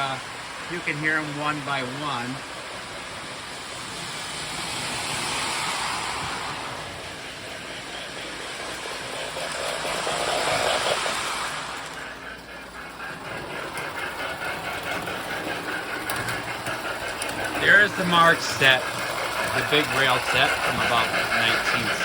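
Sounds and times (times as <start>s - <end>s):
toy train rhythmic chuffing: 0.0s - 22.0s
toy train steam hiss and rumble: 0.0s - 22.0s.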